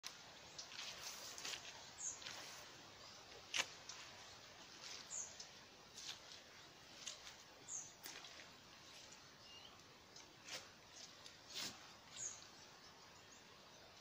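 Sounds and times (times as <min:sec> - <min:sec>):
rain clothes rustling: 0:00.0 - 0:09.4, 0:10.2 - 0:12.5
footsteps on wet mud: 0:00.0 - 0:12.5
low outdoor hiss: 0:00.0 - 0:14.0.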